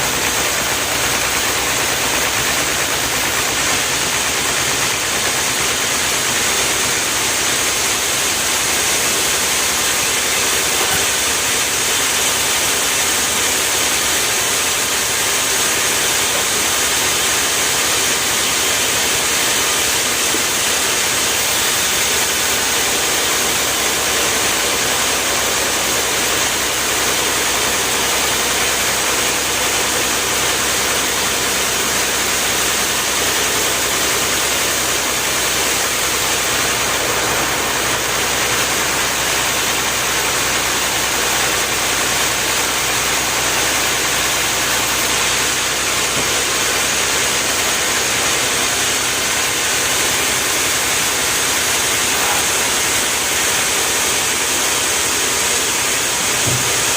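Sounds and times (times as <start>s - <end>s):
motor running loudly: 0.0s - 56.9s
strong hiss: 0.0s - 56.9s.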